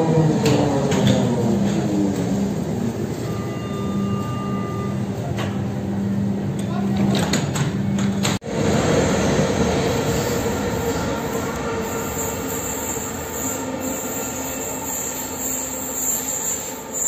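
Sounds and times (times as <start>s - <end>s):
train rumbling with whine: 0.0s - 17.0s.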